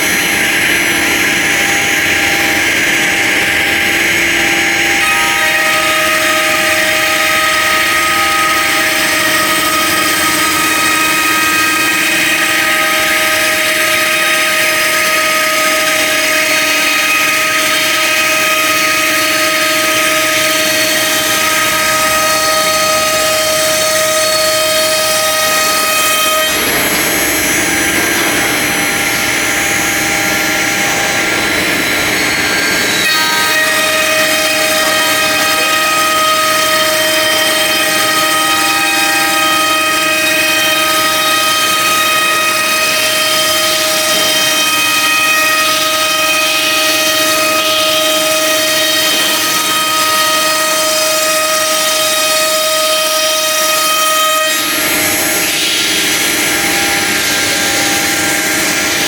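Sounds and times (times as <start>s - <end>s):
router spindle whining: 0.0s - 59.0s.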